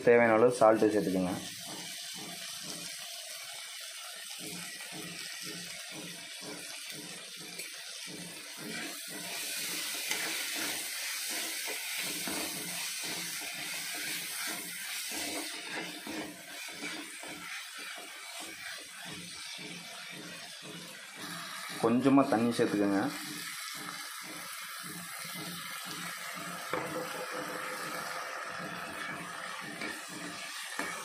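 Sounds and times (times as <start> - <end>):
vegetables sizzling in a pan: 0.0 - 31.0
spatula stirring and scraping: 0.9 - 31.0.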